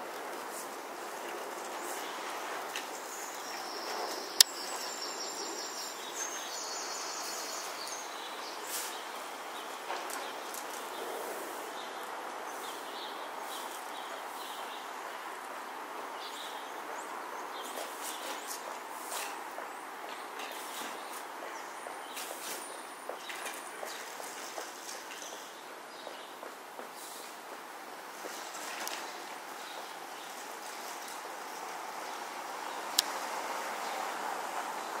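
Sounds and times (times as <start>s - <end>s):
steady outdoor hiss: 0.0s - 35.0s
wind: 0.0s - 35.0s.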